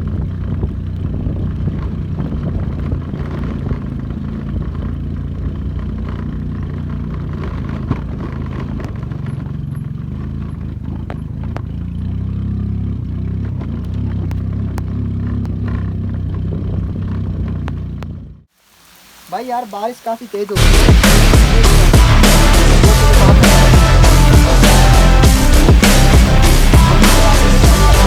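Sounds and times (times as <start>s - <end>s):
scooter engine running: 0.0s - 18.5s, 20.6s - 28.0s.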